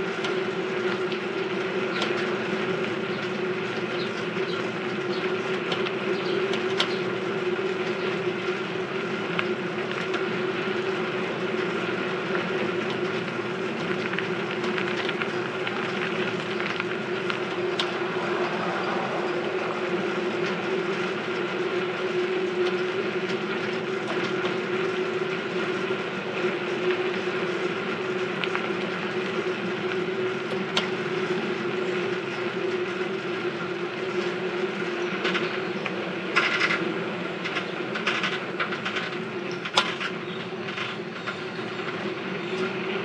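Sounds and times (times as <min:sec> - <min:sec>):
bicycle whine: 0:00.0 - 0:43.0
bicycle clicks and rattles: 0:00.1 - 0:19.2, 0:20.0 - 0:43.0.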